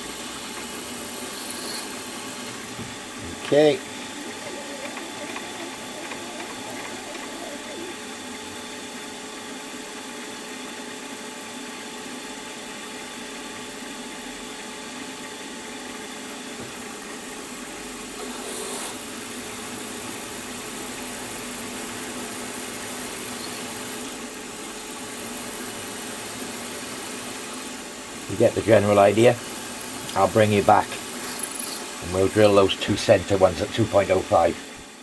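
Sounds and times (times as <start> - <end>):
milling machine spindle hum: 0.0 - 35.0.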